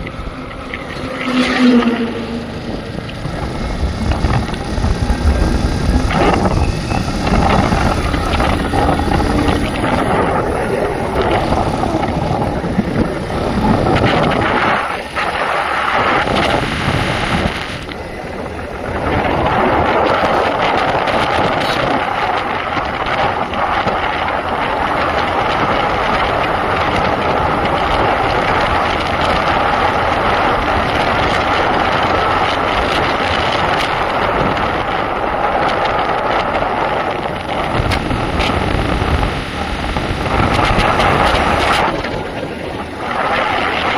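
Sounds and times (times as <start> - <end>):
motorcycle engine running: 0.0 - 43.9
wind rushing on microphone: 0.0 - 43.9.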